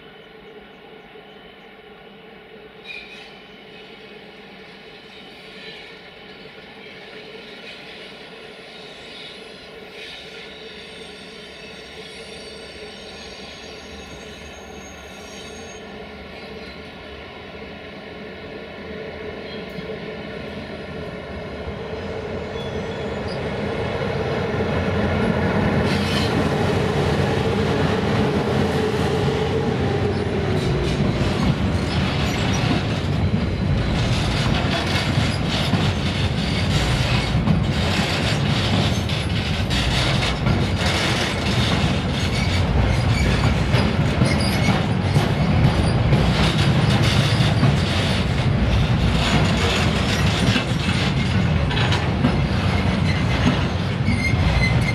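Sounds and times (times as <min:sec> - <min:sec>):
electric locomotive humming: 0:00.0 - 0:54.9.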